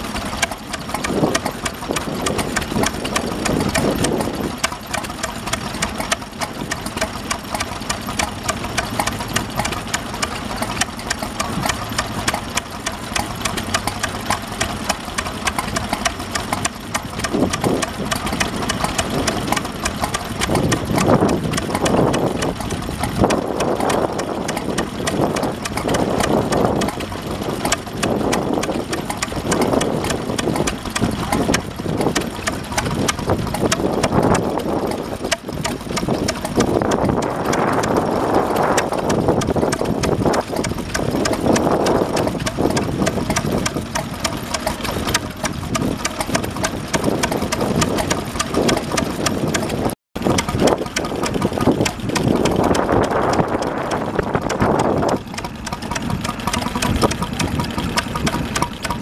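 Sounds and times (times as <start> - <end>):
stationary engine running: 0.0 - 59.0.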